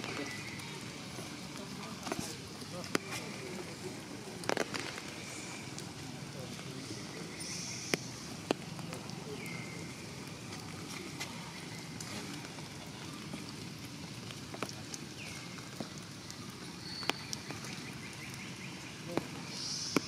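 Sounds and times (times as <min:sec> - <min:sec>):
drips and taps: 0:00.0 - 0:03.6, 0:04.4 - 0:20.0
rain falling on foliage: 0:00.0 - 0:20.0.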